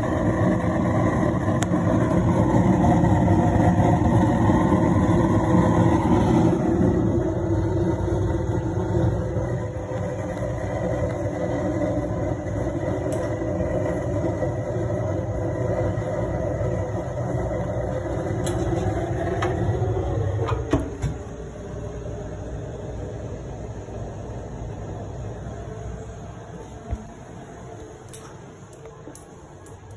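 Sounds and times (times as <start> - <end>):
burner flame rumbling: 0.0 - 29.9
fan humming: 0.0 - 29.9.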